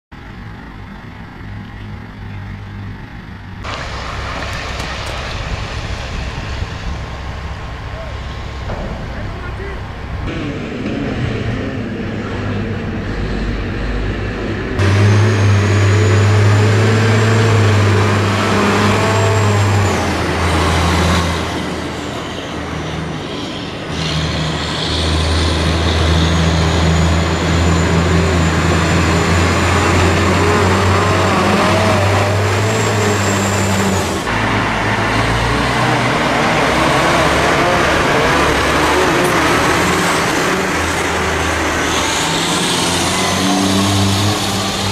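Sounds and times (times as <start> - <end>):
diesel truck engines running: 0.1 - 44.9.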